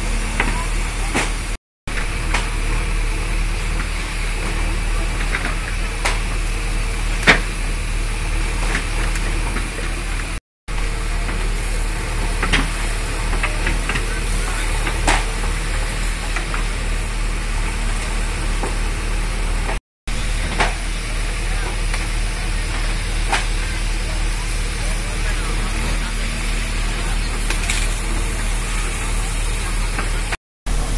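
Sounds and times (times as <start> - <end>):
engine running: 0.0 - 30.9
water spraying from fire hose: 0.0 - 30.9.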